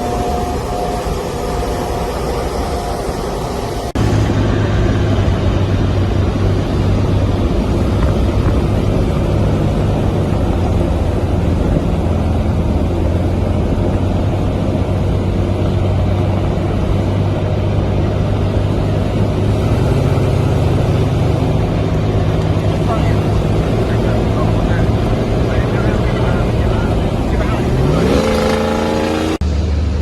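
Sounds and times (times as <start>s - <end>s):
road noise: 0.0s - 30.0s
truck engine droning: 0.0s - 30.0s.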